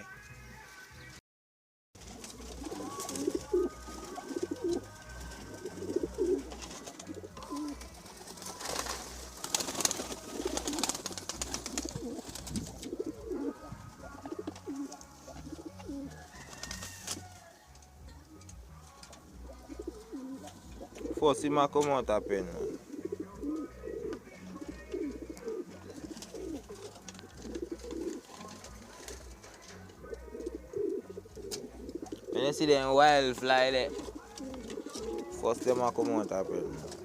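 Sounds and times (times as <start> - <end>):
pigeons cooing: 2.1 - 17.4, 19.0 - 37.0.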